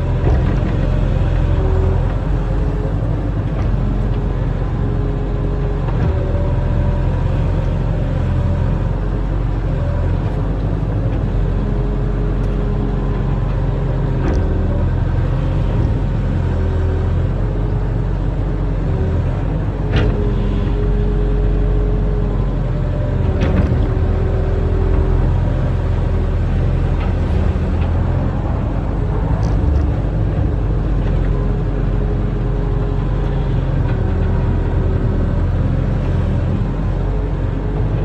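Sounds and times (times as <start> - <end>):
diesel engine rumbling: 0.0 - 38.0
hydraulics whining: 0.0 - 38.0.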